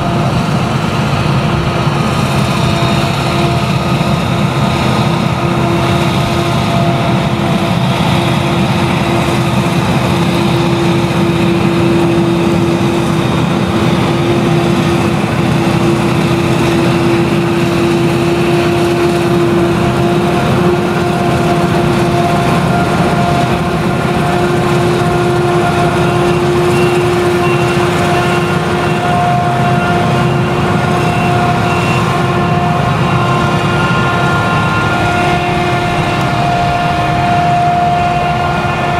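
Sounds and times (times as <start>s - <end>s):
harvester engine drone: 0.0s - 38.9s
high whine: 0.0s - 38.9s.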